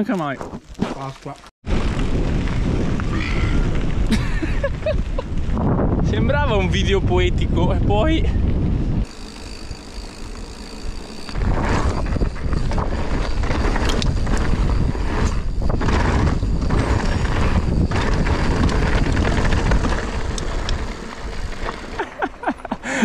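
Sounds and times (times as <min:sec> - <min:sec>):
bike tyres rolling on gravel: 0:00.0 - 0:23.0
wind rumbling on microphone: 0:01.6 - 0:22.0.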